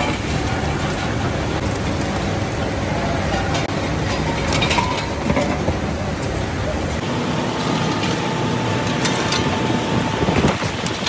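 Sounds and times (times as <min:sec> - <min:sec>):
rolling mill machinery din: 0:00.0 - 0:11.0.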